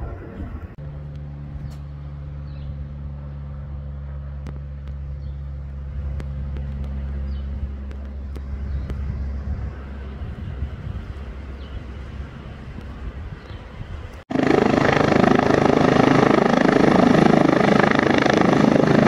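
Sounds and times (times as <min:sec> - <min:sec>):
propeller aeroplane droning overhead: 0:00.0 - 0:19.0.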